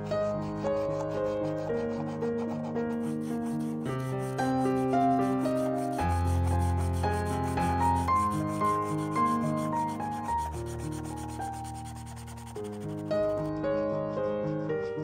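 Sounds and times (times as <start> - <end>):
marker scratching on paper: 0.0 - 15.0.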